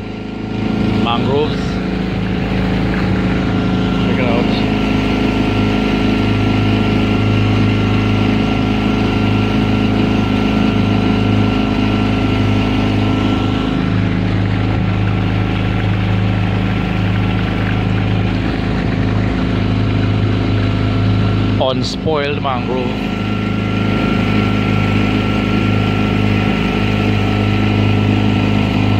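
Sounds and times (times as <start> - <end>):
outboard motor running: 0.0 - 28.9.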